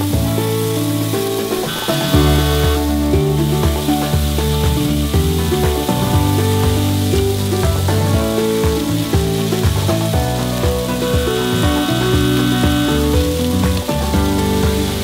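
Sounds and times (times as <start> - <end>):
background music with held notes: 0.0 - 15.0
steaks sizzling in a hot pan: 0.1 - 15.0.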